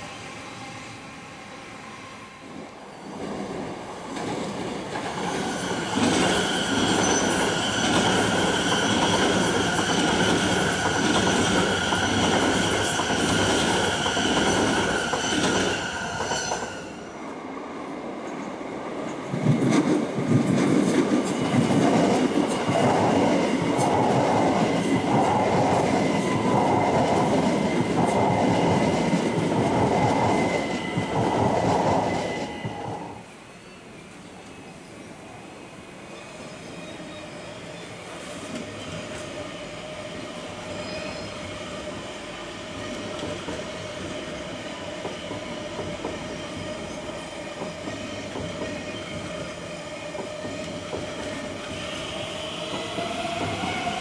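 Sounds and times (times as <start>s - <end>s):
electric train high whine: 0.0s - 19.6s, 21.3s - 54.0s.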